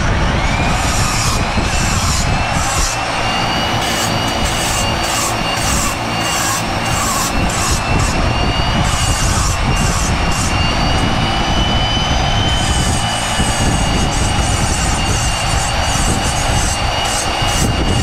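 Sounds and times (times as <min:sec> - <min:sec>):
rotary tool high whine: 0:00.0 - 0:18.0.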